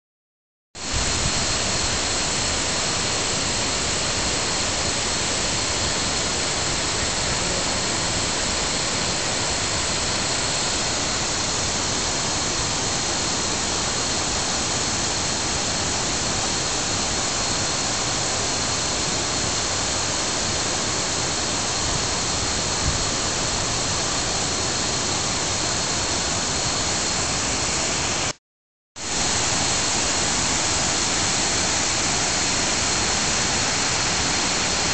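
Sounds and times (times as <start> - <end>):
waterfall rushing: 0.8 - 28.3, 29.0 - 34.9.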